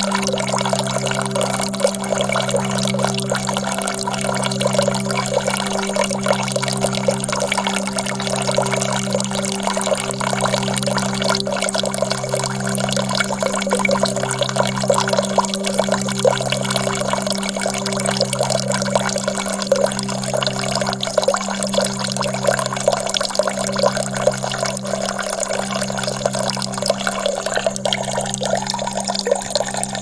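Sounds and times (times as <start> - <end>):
low drone: 0.0 - 30.0.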